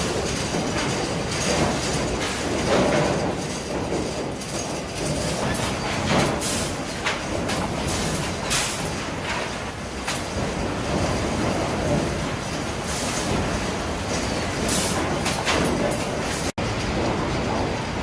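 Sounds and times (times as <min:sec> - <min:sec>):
wood-processing machinery rattling: 0:00.0 - 0:18.0.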